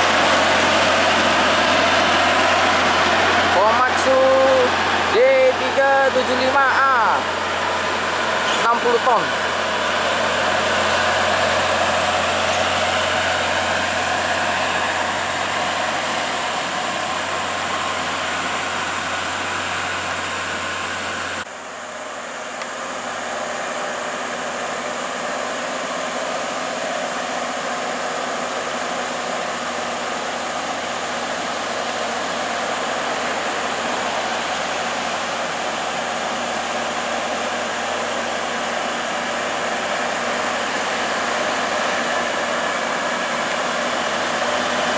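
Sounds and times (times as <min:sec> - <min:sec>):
heavy truck engine and tyres: 0:00.0 - 0:44.9.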